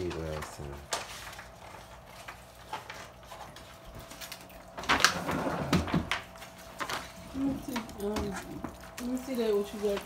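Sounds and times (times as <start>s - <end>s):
clattering and rustling handling: 0.0s - 10.0s.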